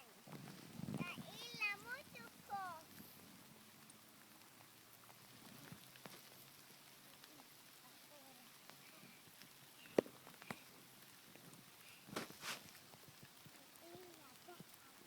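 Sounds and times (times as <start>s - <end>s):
faint rain patter: 0.0s - 15.0s.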